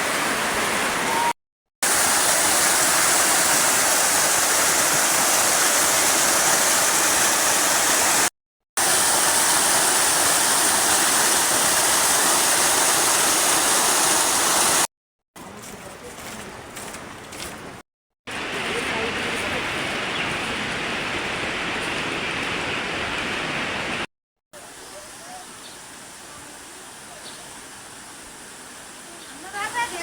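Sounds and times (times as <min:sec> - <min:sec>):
water rushing: 0:00.0 - 0:14.9, 0:16.4 - 0:30.0.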